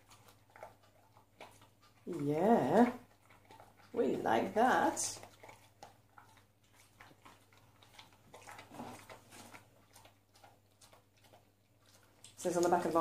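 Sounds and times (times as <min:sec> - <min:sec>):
dog chewing and licking: 0:00.0 - 0:13.0.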